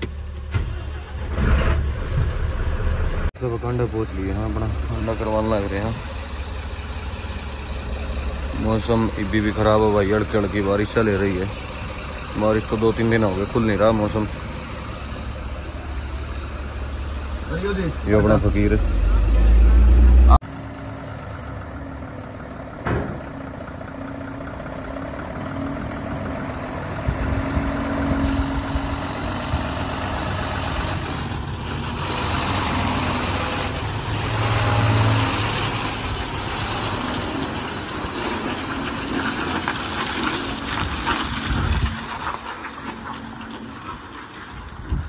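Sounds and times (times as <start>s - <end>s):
truck diesel engine running: 0.0s - 45.0s.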